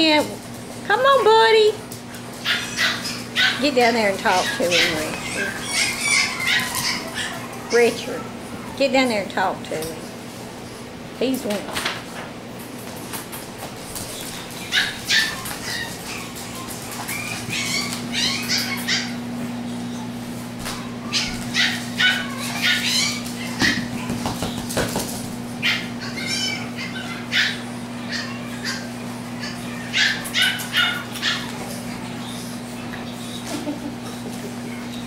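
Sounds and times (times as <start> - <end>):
steady low hum: 0.0 - 35.0
puppies yipping and whining: 2.1 - 9.2, 13.9 - 35.0.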